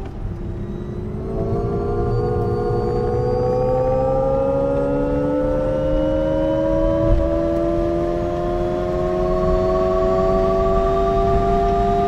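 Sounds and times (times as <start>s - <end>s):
electric car whine rising: 0.0s - 12.0s
road noise: 0.0s - 12.0s.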